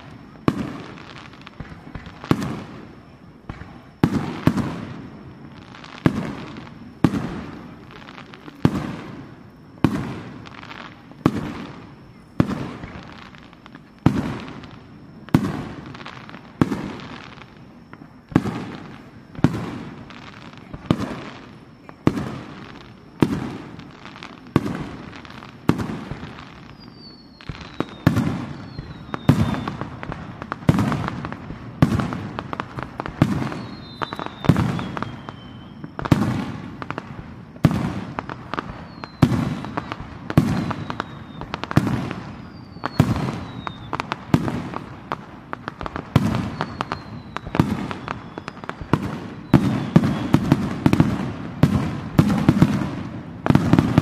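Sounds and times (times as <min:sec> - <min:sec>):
falling whistles: 0:00.0 - 0:36.6, 0:37.5 - 0:44.8, 0:46.1 - 0:51.2
firework crackling: 0:00.0 - 0:54.0.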